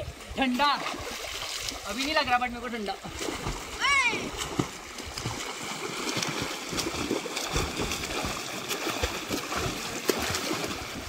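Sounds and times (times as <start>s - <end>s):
stream rushing: 0.0s - 11.0s
water splashing: 0.0s - 11.0s.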